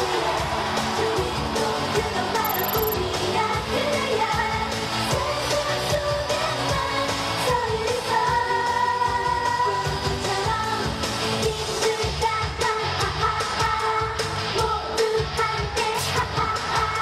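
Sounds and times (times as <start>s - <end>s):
women singing pop song: 0.0s - 17.0s.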